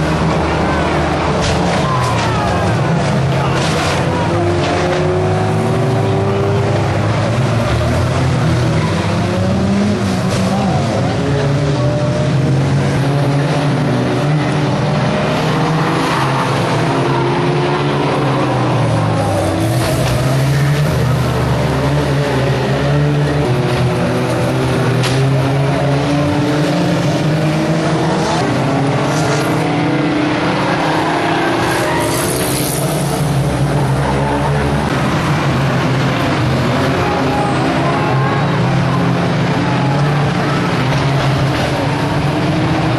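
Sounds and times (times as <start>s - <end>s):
racing car engines revving: 0.0s - 42.9s.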